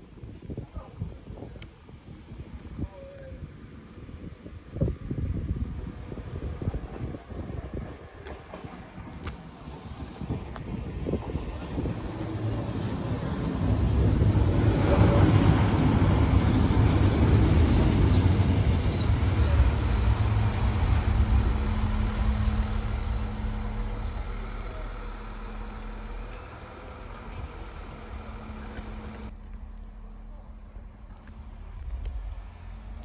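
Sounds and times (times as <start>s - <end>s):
diesel train engine rumbling: 3.7s - 33.0s
train wheels rumbling: 5.5s - 33.0s.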